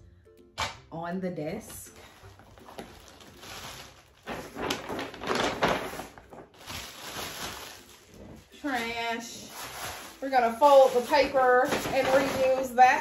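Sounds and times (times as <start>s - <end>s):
plastic packaging crinkling: 2.0s - 13.0s.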